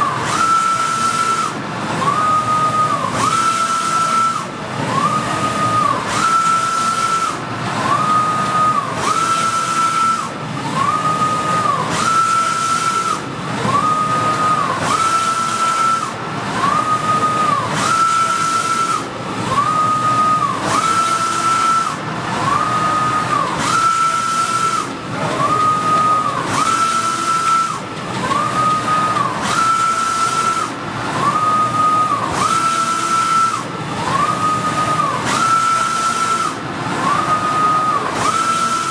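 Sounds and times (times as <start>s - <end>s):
inkjet printer carriage whine: 0.0s - 38.9s.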